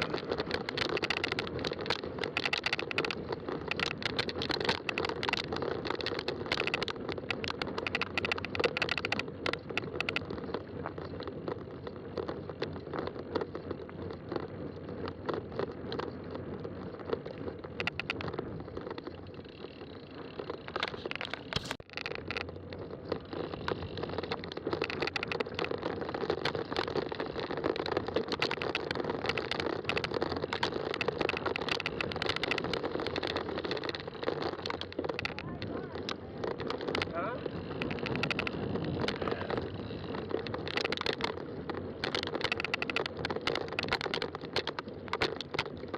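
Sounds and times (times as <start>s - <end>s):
bike tires rumbling on trail: 0.0s - 45.9s
clicks and rattles: 0.0s - 45.9s.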